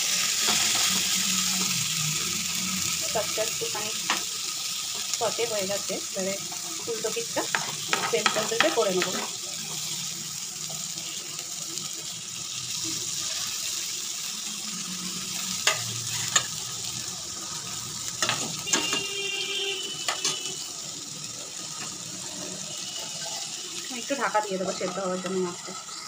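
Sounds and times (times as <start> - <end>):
fish sizzling on griddle: 0.0 - 26.0.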